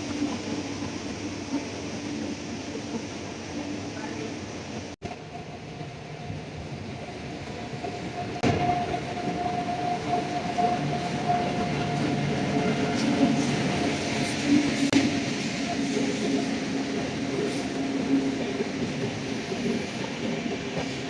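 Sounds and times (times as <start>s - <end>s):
steady train whine: 0.0s - 21.0s
train running on track: 0.0s - 21.0s.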